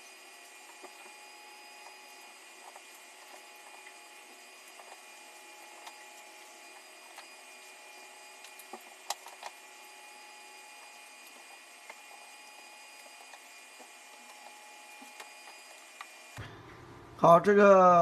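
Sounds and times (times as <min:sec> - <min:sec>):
hard drive whine: 0:00.0 - 0:18.0.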